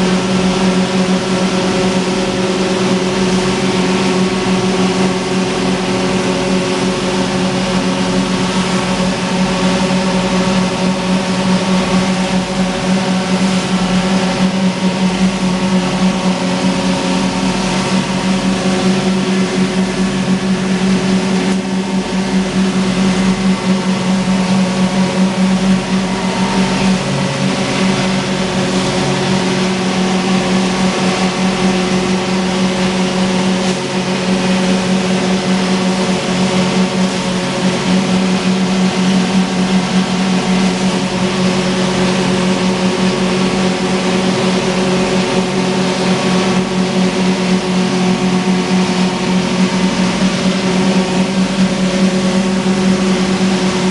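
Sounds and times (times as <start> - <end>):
grinding mill humming: 0.0 - 53.9.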